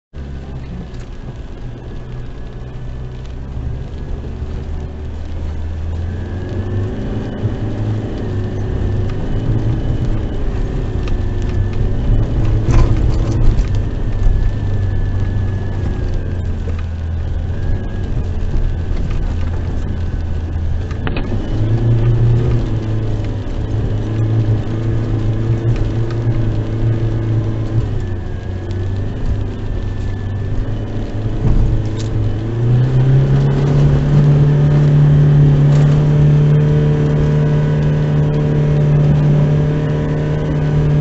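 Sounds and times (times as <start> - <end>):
car engine pulling at low speed: 0.0 - 41.0.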